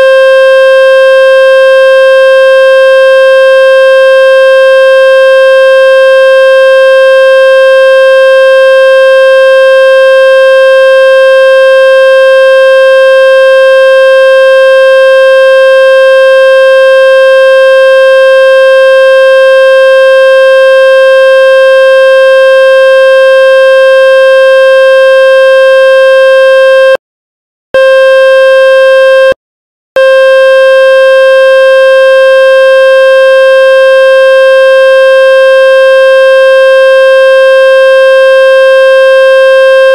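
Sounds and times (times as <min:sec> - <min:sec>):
buzzy electronic test tone: 0:00.0 - 0:27.0, 0:27.8 - 0:29.4, 0:30.0 - 0:39.9.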